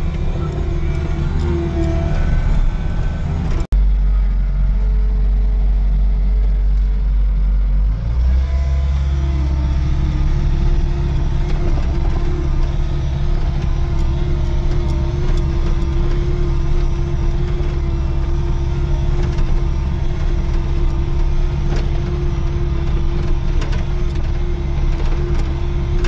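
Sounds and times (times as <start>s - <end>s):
vehicle engine drone: 0.0s - 26.0s.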